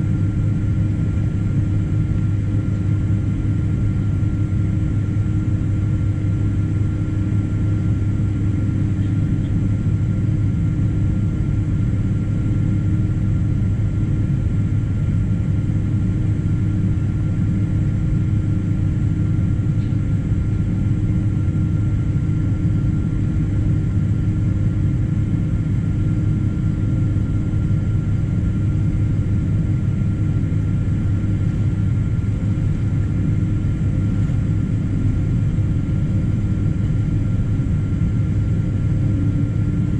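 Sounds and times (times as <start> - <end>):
jet engine cabin noise: 0.0 - 39.9.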